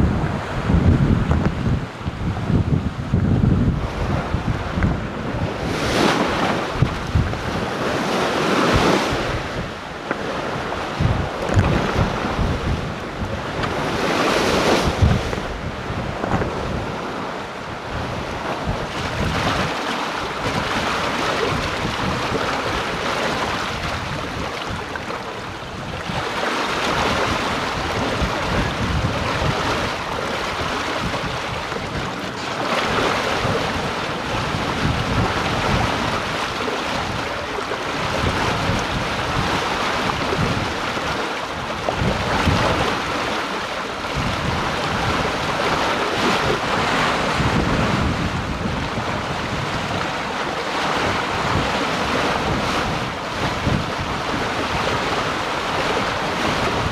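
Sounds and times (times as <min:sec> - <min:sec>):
water splashing along hull: 0:00.0 - 0:56.9
wind buffeting microphone: 0:00.0 - 0:56.9.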